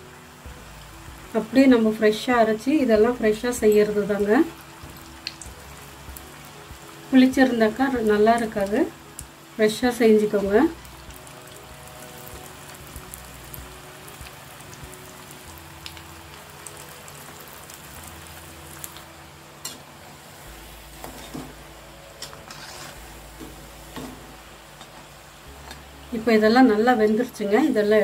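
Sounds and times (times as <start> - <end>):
batter deep-frying in oil: 0.0 - 28.0.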